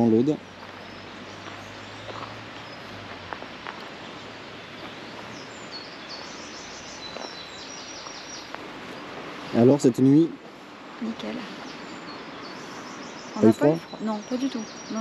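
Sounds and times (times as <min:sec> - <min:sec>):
songbird chirping: 0:00.0 - 0:15.0
steady background hiss: 0:00.0 - 0:15.0.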